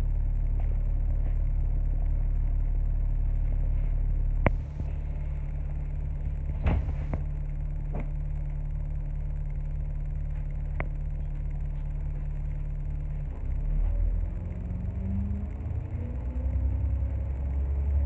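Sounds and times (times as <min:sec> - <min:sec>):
tram equipment humming: 0:00.0 - 0:18.0
tram motor whine: 0:00.0 - 0:18.0.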